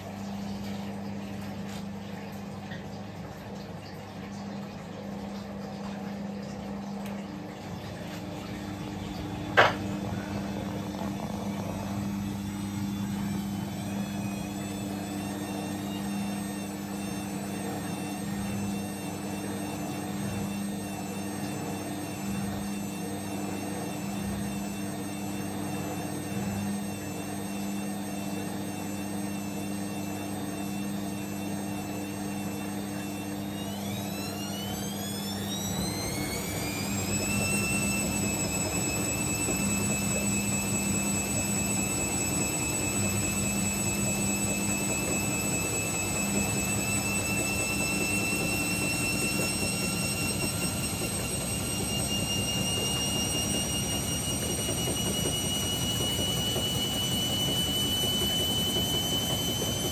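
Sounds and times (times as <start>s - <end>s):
washing machine drum spinning: 0.0s - 59.9s
motor whine rising: 6.1s - 59.9s.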